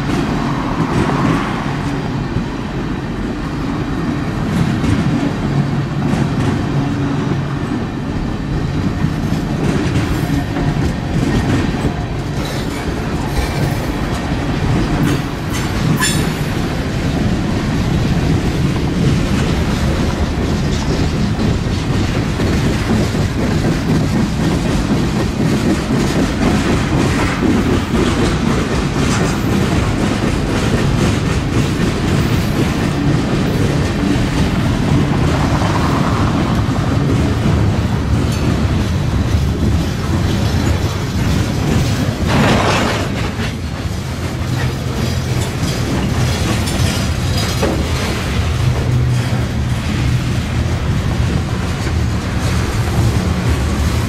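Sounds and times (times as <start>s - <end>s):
freight cars rumbling clickety-clack: 0.0s - 54.0s.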